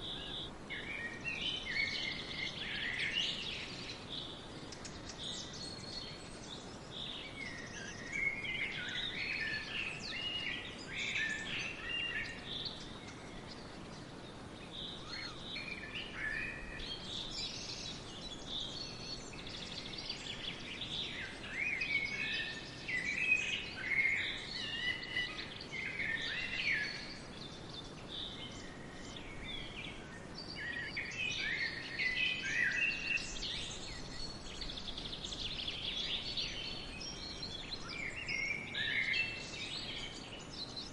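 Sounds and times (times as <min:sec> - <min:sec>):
songbirds chirping and singing: 0:00.0 - 0:40.9
steady background hiss: 0:00.0 - 0:40.9.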